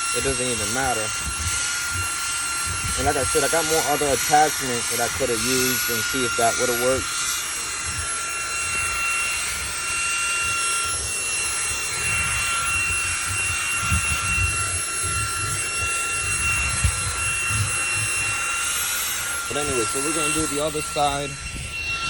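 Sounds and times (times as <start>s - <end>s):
suction hiss: 0.0s - 22.0s
vacuum cleaner motor whine: 0.0s - 22.0s.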